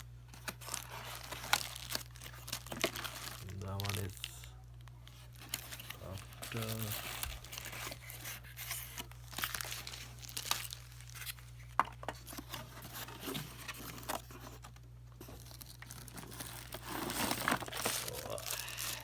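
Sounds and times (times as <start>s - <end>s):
plastic packaging crinkling: 0.3s - 19.0s.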